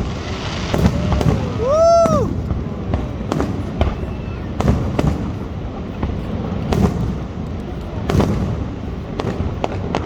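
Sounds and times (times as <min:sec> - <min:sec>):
fireworks booming: 0:00.0 - 0:10.0
fireworks popping: 0:00.0 - 0:10.0.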